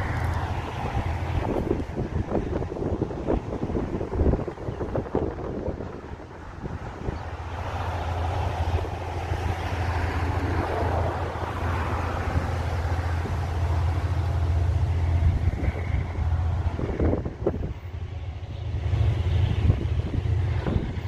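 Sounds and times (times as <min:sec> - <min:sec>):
large engine droning: 0:00.0 - 0:21.0
rushing noise: 0:00.0 - 0:21.0.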